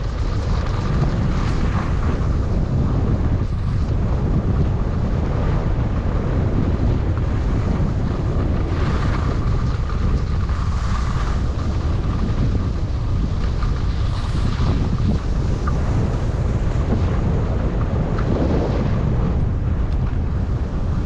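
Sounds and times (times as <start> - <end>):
skis sliding on snow: 0.0 - 21.0
wind buffeting microphone: 0.0 - 21.0.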